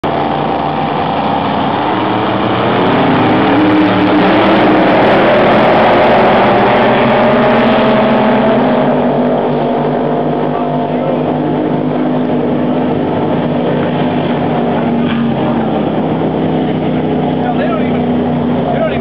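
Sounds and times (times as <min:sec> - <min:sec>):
powerboat engines at high revs: 0:00.0 - 0:19.0.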